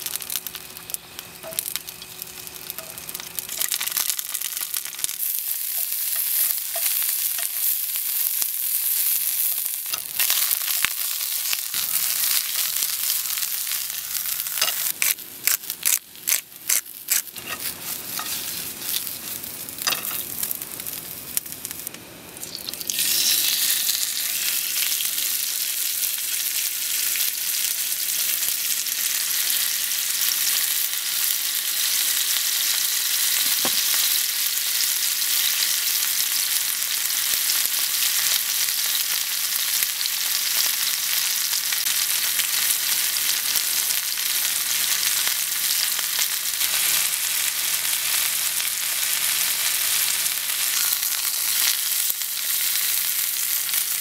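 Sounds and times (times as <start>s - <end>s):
steak sizzling in a skillet: 0.0s - 54.0s.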